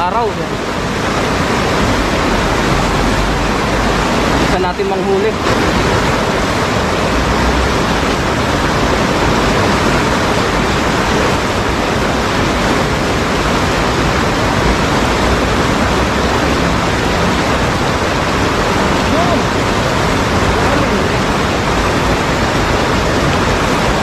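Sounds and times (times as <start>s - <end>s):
river water rushing over rocks: 0.0s - 24.0s.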